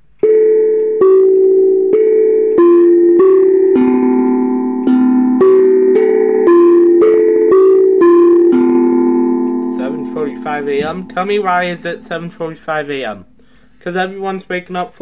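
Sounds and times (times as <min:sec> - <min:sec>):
grandfather clock chime melody: 0:00.3 - 0:13.1.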